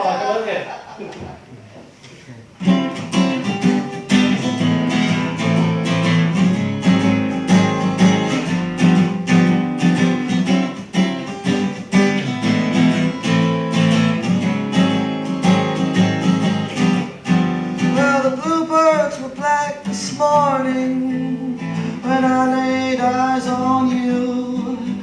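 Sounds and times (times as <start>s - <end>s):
acoustic guitar strumming: 2.6s - 25.0s.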